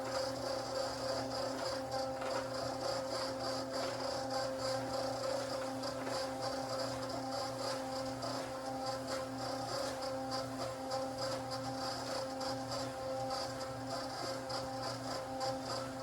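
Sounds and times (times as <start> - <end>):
concrete mixer motor hum: 0.0 - 16.0.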